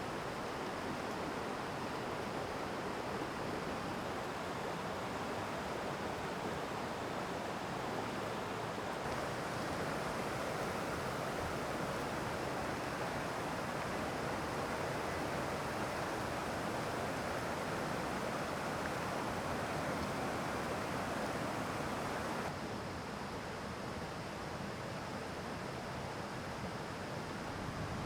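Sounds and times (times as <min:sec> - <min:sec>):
mountain stream rushing: 0:00.0 - 0:22.5.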